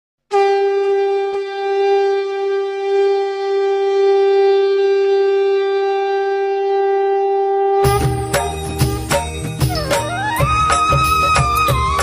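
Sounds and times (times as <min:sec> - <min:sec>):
conch shell blown long note: 0:00.3 - 0:12.0.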